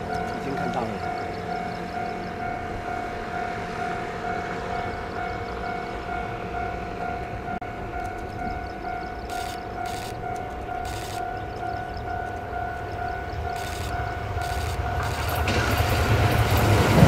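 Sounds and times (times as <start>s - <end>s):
level-crossing warning bell ringing: 0.0s - 17.0s
train rumbling: 0.0s - 17.0s.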